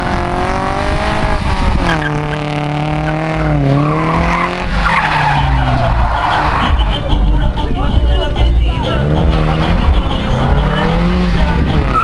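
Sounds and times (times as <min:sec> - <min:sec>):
car engine revving high: 0:00.0 - 0:07.5, 0:08.2 - 0:12.0
tyres spinning and squealing: 0:01.8 - 0:12.0.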